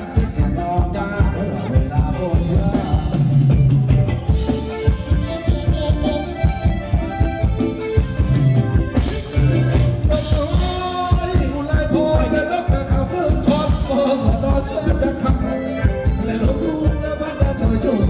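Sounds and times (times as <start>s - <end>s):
person singing: 0.0s - 6.7s, 9.4s - 18.0s
live band dance music: 0.0s - 18.0s
steady drum beat: 0.0s - 18.0s.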